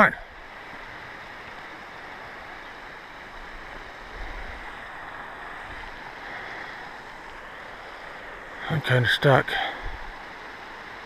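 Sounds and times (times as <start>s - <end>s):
creek rushing: 0.0s - 11.0s.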